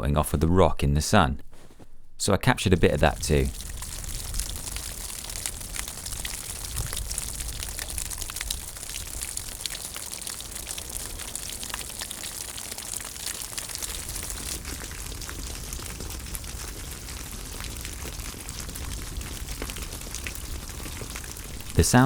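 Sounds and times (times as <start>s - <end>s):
faint steady hiss: 0.3s - 22.0s
melting ice crackling: 2.7s - 22.0s
water dripping: 2.7s - 22.0s.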